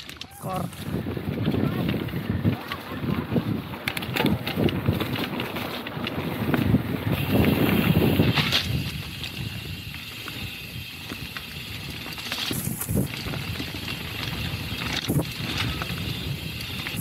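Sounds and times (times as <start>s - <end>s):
bike rattling: 0.0s - 17.0s
bike tyre rumble on stones: 0.0s - 17.0s.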